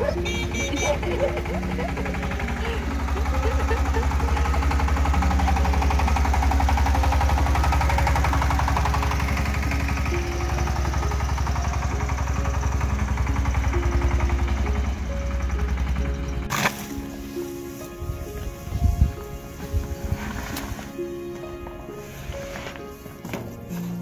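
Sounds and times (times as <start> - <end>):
tractor engine clattering: 0.0 - 22.0.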